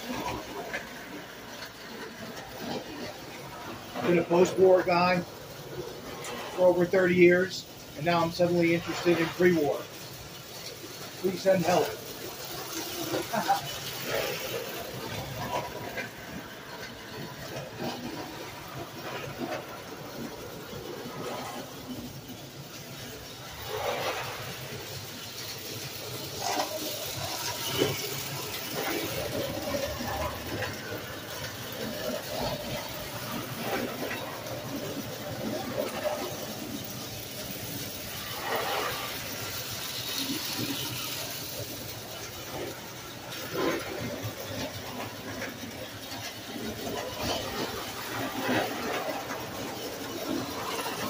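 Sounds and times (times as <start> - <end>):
toy train rattling on metal track: 0.0 - 51.0.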